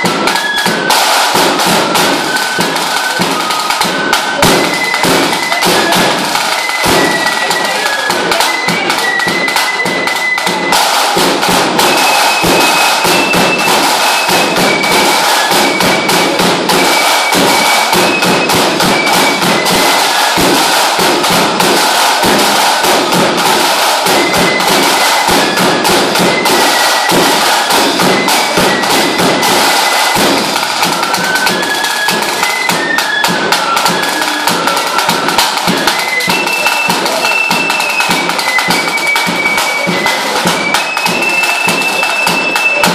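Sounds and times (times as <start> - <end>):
drum roll beaten with canes: 0.0 - 42.9
fife melody: 0.0 - 42.9.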